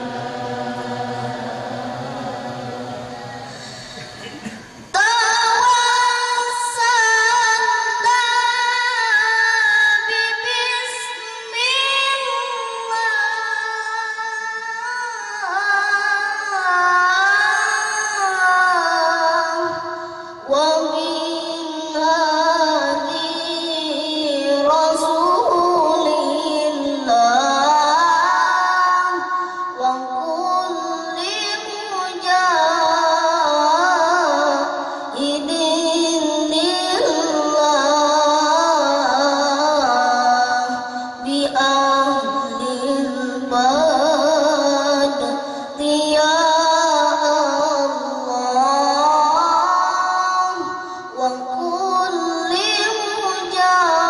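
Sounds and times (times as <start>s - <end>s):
boy reciting melodically over loudspeakers: 0.0s - 54.0s.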